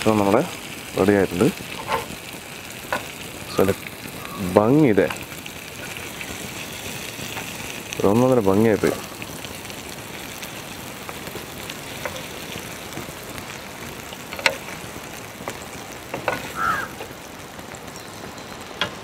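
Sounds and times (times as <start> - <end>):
chicken sizzling on grill pan: 0.0 - 19.0.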